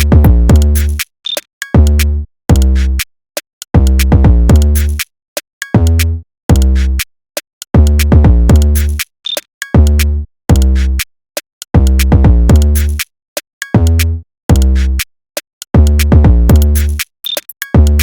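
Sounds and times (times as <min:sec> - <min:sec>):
electronic hip-hop beat: 0:00.0 - 0:03.0, 0:03.7 - 0:07.0, 0:07.7 - 0:11.0, 0:11.7 - 0:15.1, 0:15.7 - 0:18.0.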